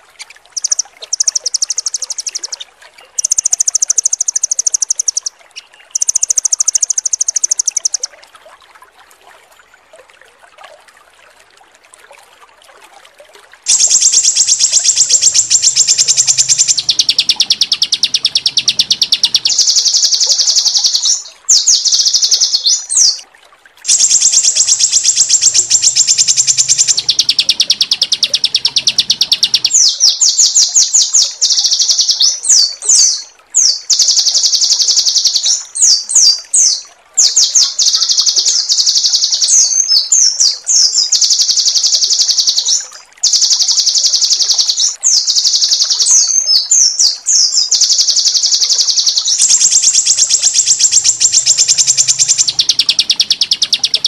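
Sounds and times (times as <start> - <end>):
songbird song: 0.0 - 8.3, 13.7 - 54.0.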